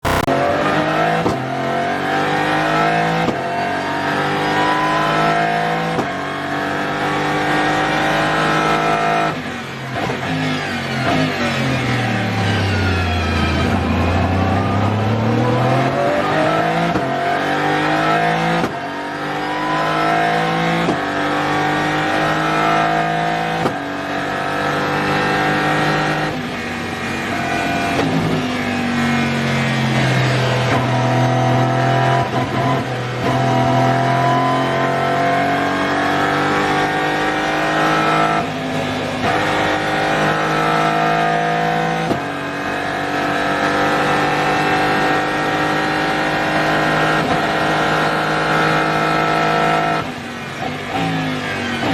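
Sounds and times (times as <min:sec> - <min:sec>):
race car engine upshifting: 0:00.0 - 0:51.9.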